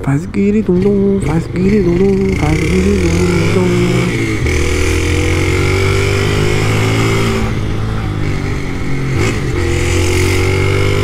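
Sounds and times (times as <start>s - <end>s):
small motorbike engine revving: 0.8s - 11.0s.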